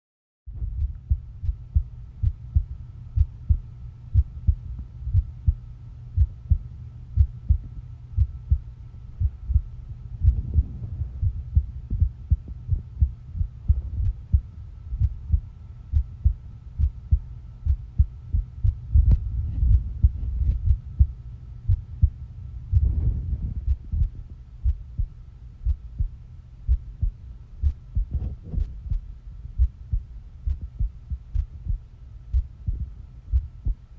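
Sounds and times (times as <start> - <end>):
heartbeat thumps: 0.5 - 33.9
faint high hum: 0.6 - 33.9.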